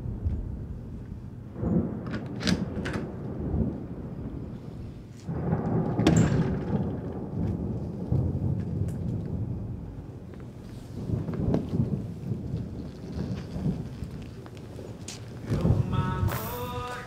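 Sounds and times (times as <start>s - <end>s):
rolling thunder: 0.0s - 17.0s
steady rain: 0.0s - 17.0s.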